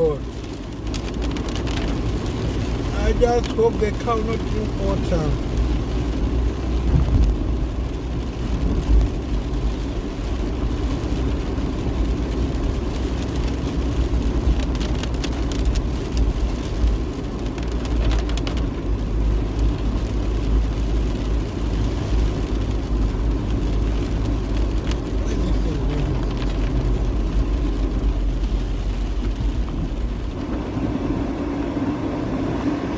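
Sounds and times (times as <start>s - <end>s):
car engine and road noise: 0.0s - 32.9s.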